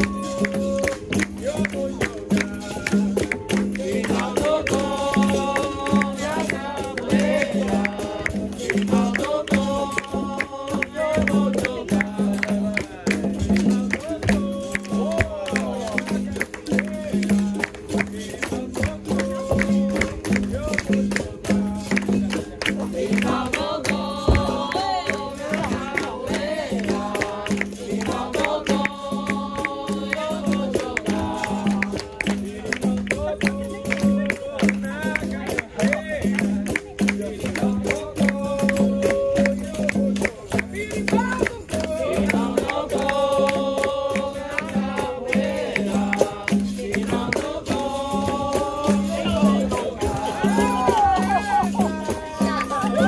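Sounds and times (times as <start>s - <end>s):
group singing: 0.0s - 53.0s
hand percussion beat: 0.0s - 53.0s
shaker rattle: 0.0s - 53.0s
tambourine jingles: 0.0s - 53.0s.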